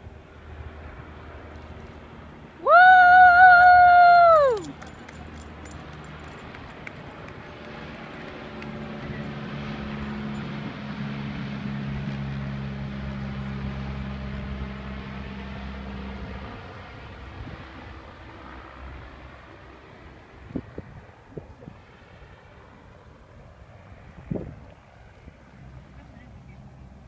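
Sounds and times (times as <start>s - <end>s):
propeller plane droning overhead: 0.0s - 27.0s.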